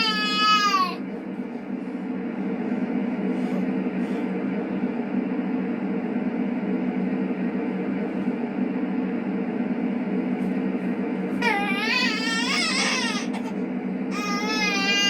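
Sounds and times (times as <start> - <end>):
steady drone with low hum: 0.0 - 15.0.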